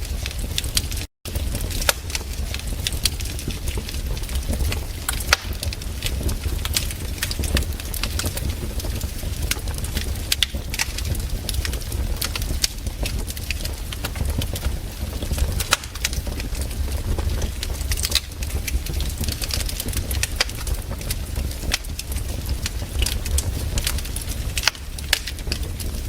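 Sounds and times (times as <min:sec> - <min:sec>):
campfire crackling and popping: 0:00.0 - 0:26.0
low steady rumble: 0:00.0 - 0:26.0.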